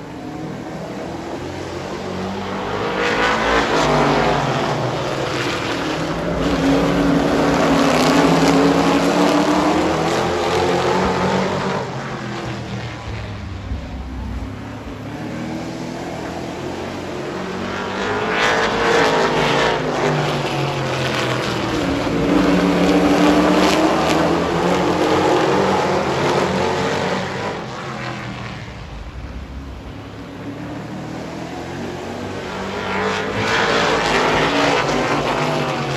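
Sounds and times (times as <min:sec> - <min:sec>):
race truck engines passing: 0:00.0 - 0:35.9.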